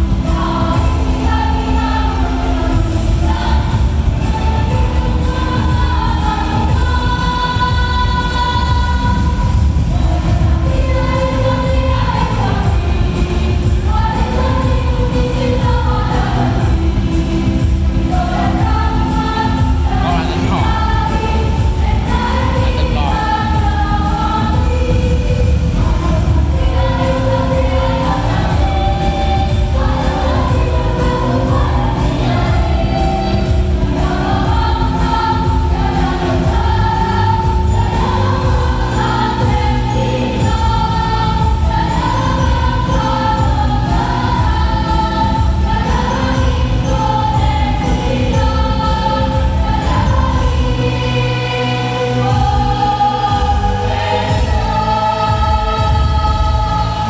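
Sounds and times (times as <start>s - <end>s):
jingling percussion: 0.0s - 57.0s
musical accompaniment with beat: 0.0s - 57.0s
women's choir singing: 0.0s - 57.0s.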